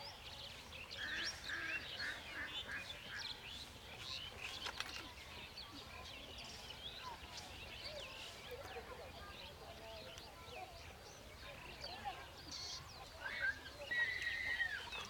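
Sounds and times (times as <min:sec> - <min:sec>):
birds chirping and calling: 0:00.9 - 0:15.0.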